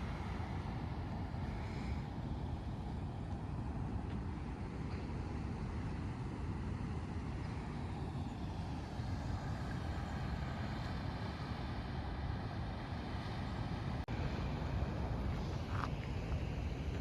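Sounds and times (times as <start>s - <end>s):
ocean surf: 0.0s - 17.0s
wind: 0.0s - 17.0s.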